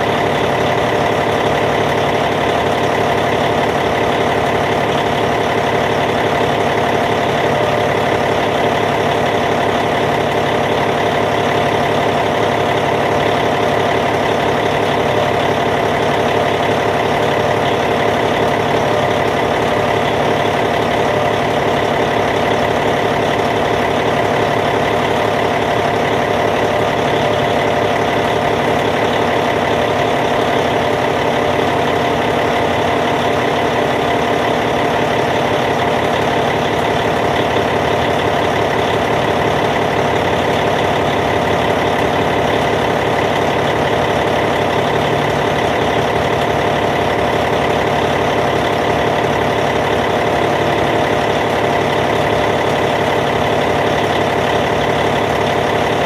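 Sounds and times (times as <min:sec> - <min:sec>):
bulldozer diesel engine idling: 0:00.0 - 0:56.0.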